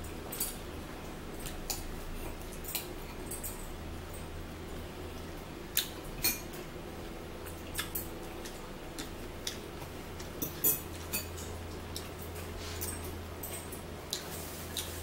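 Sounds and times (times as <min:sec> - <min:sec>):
eating clicks and smacks: 0:01.3 - 0:06.7, 0:07.4 - 0:15.0.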